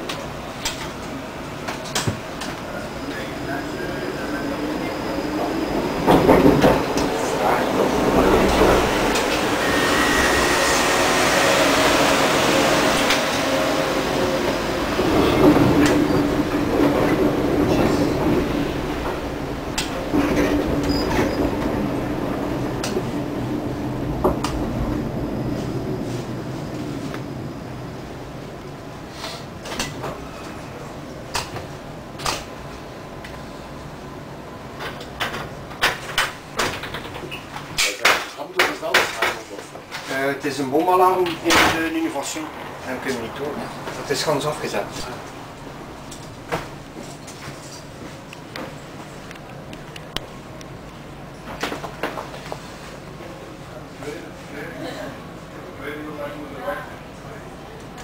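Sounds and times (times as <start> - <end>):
tram running and rolling noise: 0.0 - 58.0.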